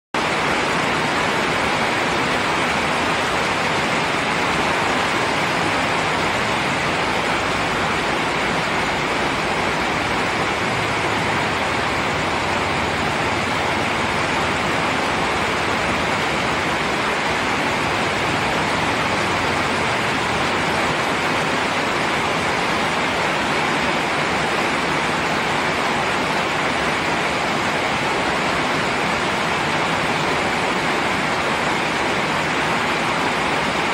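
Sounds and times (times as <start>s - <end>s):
steady rain: 0.1s - 33.9s.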